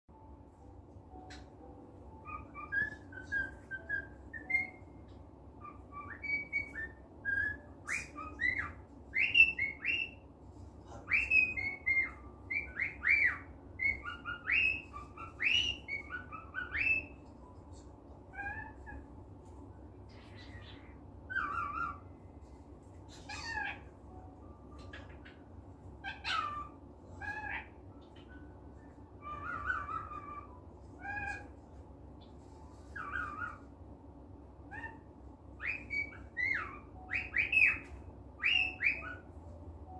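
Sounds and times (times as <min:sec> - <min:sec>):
cockatiel whistling: 0:01.1 - 0:10.3, 0:10.9 - 0:17.5, 0:18.3 - 0:19.1, 0:20.1 - 0:22.3, 0:23.1 - 0:25.4, 0:26.0 - 0:31.6, 0:32.2 - 0:33.7, 0:34.7 - 0:39.9.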